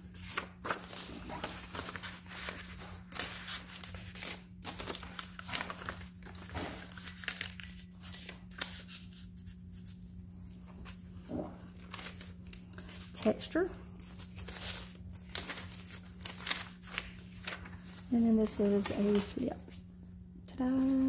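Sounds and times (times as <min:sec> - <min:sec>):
paper pages rustling: 0:00.0 - 0:20.0
steady low hum: 0:00.0 - 0:21.0.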